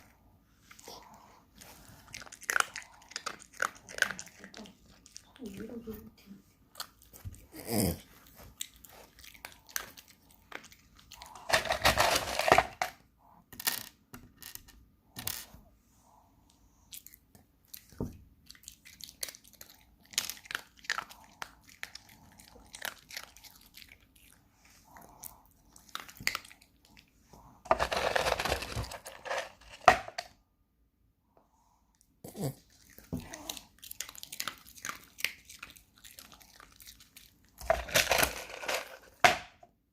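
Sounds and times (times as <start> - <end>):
dog chewing and crunching food: 0.0 - 13.4, 16.8 - 30.2, 32.2 - 39.5.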